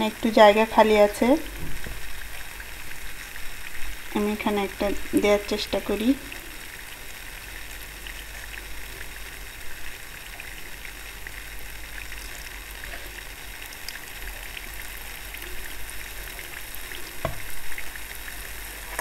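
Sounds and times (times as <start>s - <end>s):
oil sizzling with crackles: 0.0s - 19.0s.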